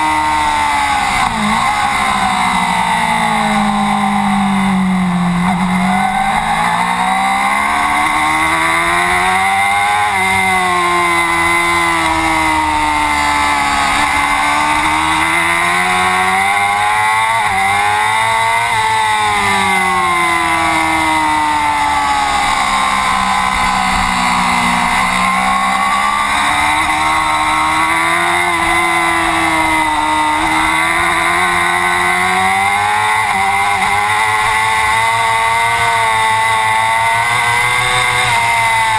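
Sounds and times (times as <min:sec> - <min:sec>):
racing motorcycle engine: 0:00.0 - 0:38.9.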